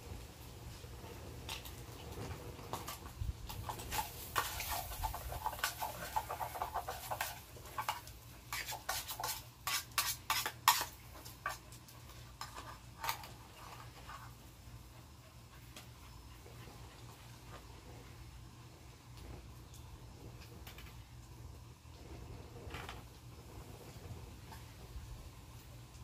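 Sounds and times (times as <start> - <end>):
meat frying crackling and popping: 0.0 - 26.0.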